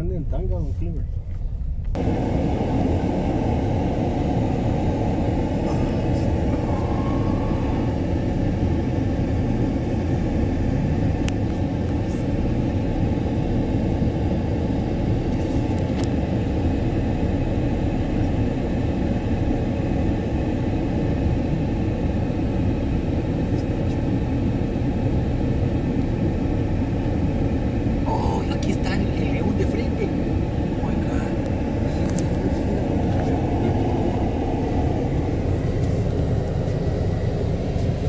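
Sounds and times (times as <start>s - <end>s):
car interior rumble: 0.0s - 38.0s.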